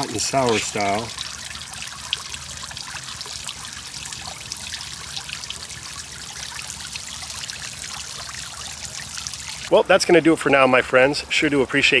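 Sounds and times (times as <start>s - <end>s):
liquid trickling and dripping: 0.0s - 9.8s.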